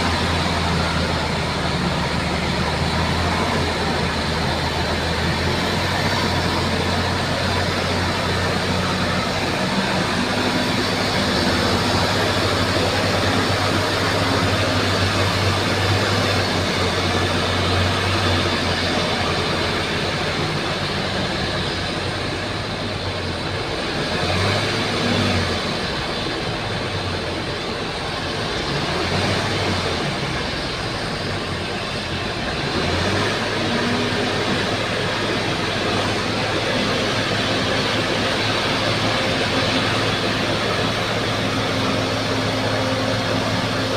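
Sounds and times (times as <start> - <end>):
bulldozer diesel engine drone: 0.0 - 43.9.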